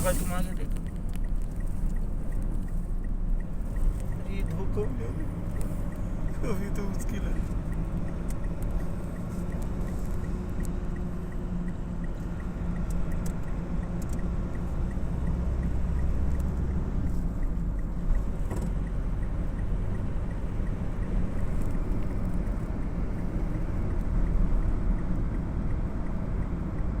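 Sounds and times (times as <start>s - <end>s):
faint regular ticking: 0.0s - 27.0s
road noise: 0.0s - 27.0s
vehicle engine rumble: 0.0s - 27.0s.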